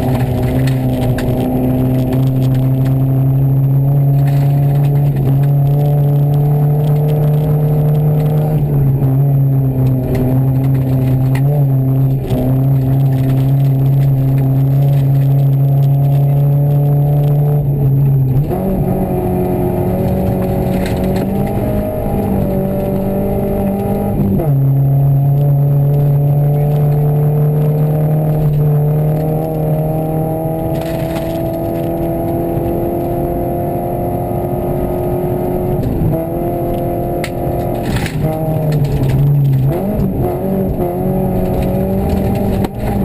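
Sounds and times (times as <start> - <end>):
rally car engine accelerating: 0.0 - 43.0.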